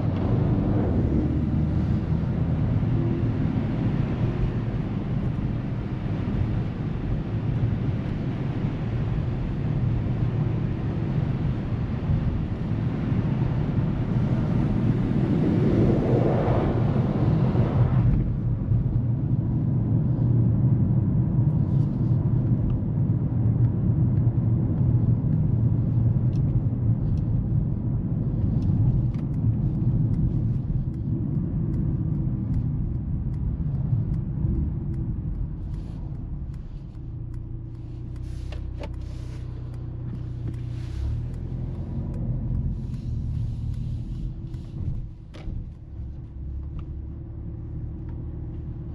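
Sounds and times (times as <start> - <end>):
car engine and road rumble: 0.0 - 48.9
wind and tyre noise hiss: 0.0 - 48.9.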